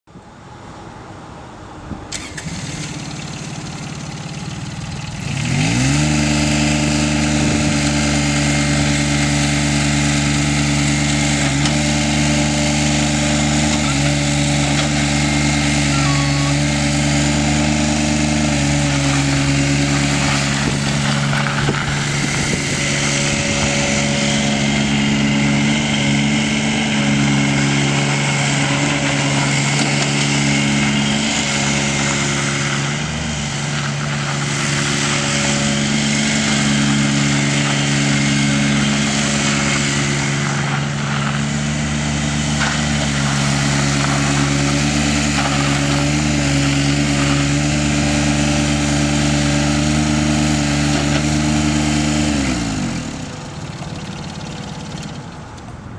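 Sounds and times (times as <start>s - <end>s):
skid steer engine running: 0.1s - 55.9s.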